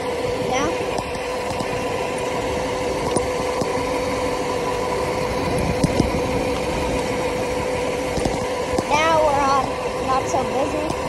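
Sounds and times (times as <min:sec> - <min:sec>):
electric motor whine: 0:00.0 - 0:11.0
wind: 0:00.0 - 0:11.0.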